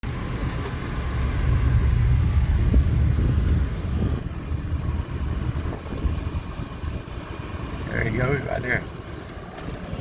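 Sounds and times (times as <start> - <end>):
faint road or wind noise: 0.0 - 10.0
vehicle engine rumble: 0.0 - 10.0.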